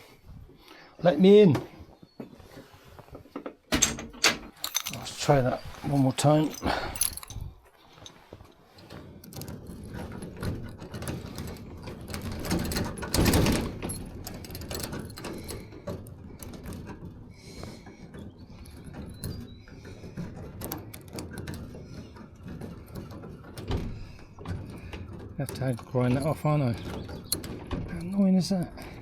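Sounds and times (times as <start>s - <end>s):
key jiggling in a padlock: 3.7s - 29.0s.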